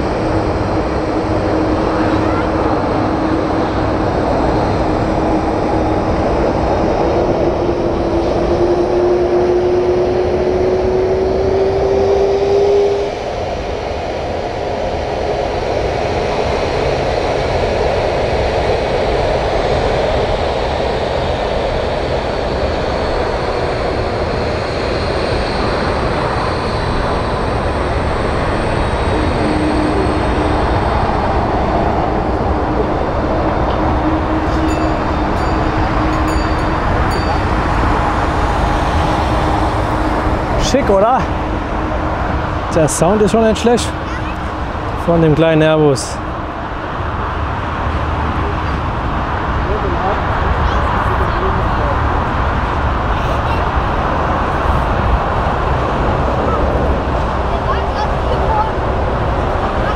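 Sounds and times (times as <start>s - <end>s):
jet engine whine: 0.0s - 59.9s
jet engines rumbling: 0.0s - 59.9s.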